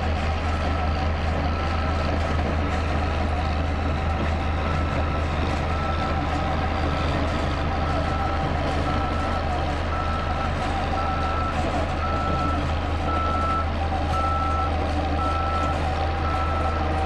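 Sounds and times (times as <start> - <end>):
road roller engine drone: 0.0 - 17.0.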